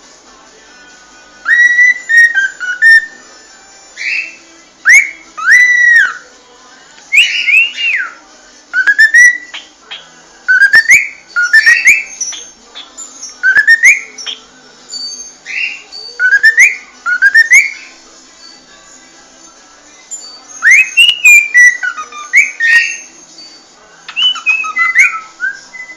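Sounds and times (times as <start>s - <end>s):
cockatiel whistling: 1.4s - 3.2s, 4.0s - 6.3s, 7.1s - 8.2s, 8.8s - 18.6s, 20.1s - 25.9s.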